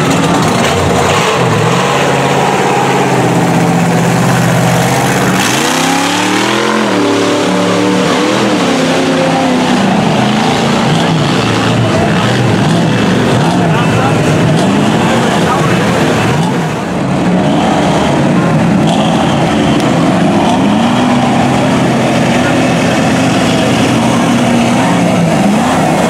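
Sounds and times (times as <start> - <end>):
truck churning through mud: 0.0 - 26.0
truck engine revving: 0.0 - 26.0.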